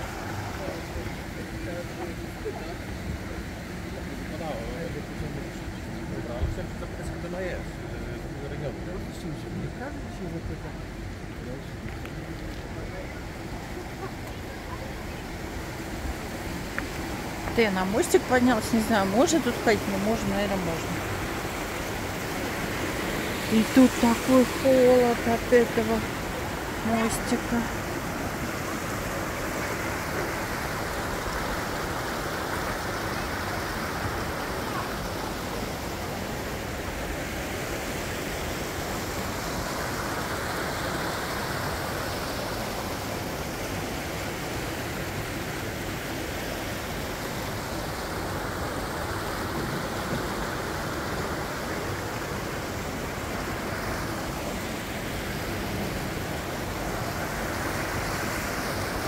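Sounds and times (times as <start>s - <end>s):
stream rushing over rocks: 0.0s - 9.1s, 10.8s - 59.0s.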